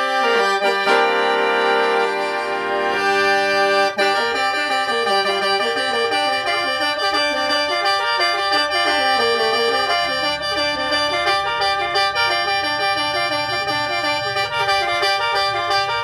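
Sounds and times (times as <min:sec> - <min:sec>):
free-reed mouth organ playing: 0:00.0 - 0:16.0.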